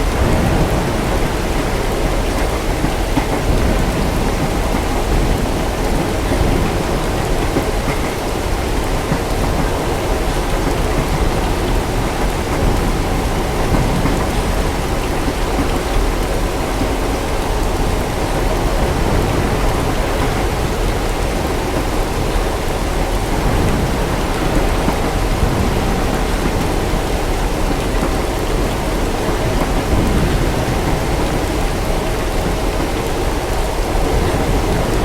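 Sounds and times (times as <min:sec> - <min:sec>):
distant thunder rumble: 0:00.0 - 0:35.0
steady rain: 0:00.0 - 0:35.0.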